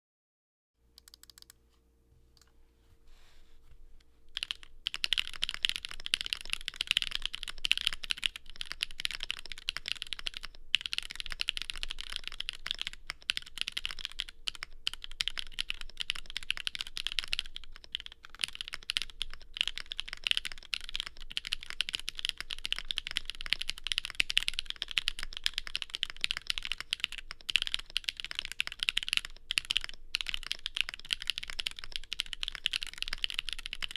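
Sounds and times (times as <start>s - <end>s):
mechanical keyboard typing: 1.0s - 1.6s, 4.3s - 33.9s.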